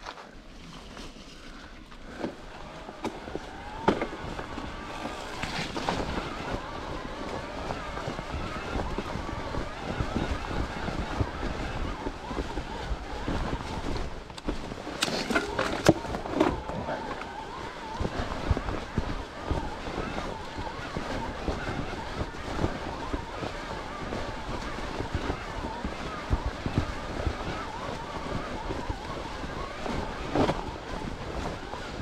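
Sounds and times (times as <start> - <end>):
wind on microphone: 0.0 - 32.0
tyre rumble: 0.1 - 32.0
bike clacks and rattles: 0.8 - 32.0.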